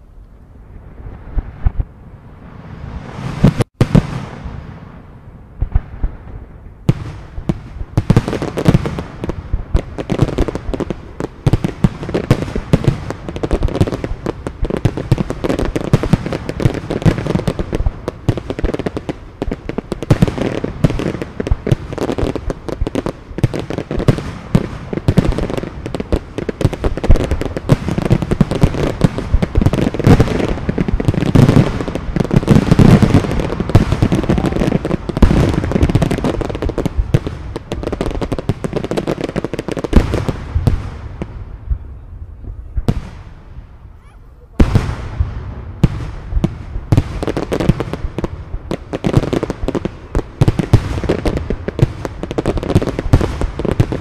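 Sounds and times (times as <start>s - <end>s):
fireworks bangs and pops: 1.0s - 2.0s, 2.6s - 5.0s, 5.6s - 54.0s.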